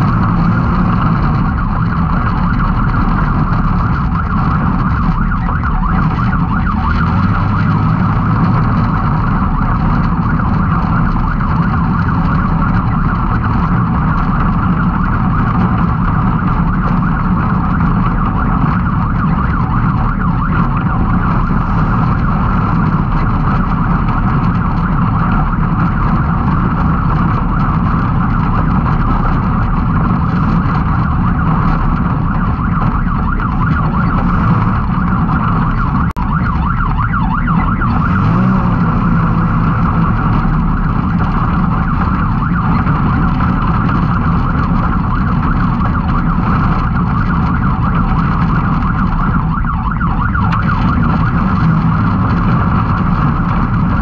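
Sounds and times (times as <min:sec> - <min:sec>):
engine running hard: 0:00.0 - 0:54.0.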